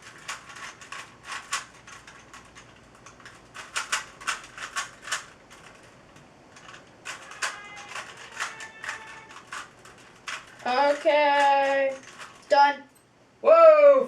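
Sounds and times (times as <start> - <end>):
plastic cube layers clicking: 0.0 - 12.5.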